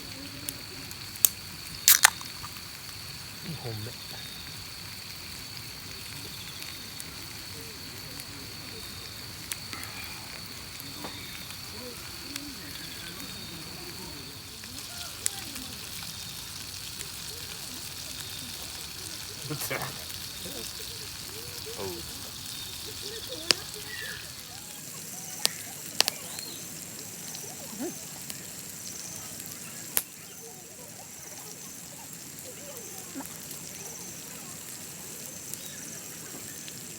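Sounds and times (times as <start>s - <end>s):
campfire crackling: 0.0s - 36.9s
fire popping: 0.0s - 36.9s.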